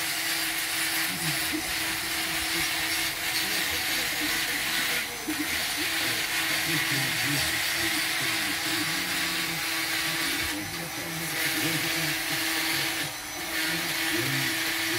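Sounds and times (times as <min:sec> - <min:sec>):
electric grinder sanding wood: 0:00.0 - 0:14.9.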